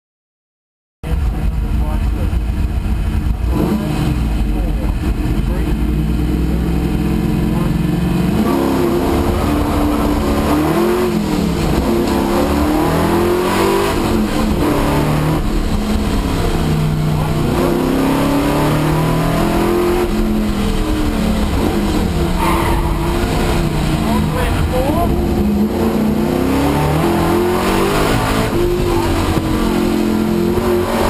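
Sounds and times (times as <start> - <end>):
car engine revving hard: 1.1 - 31.0.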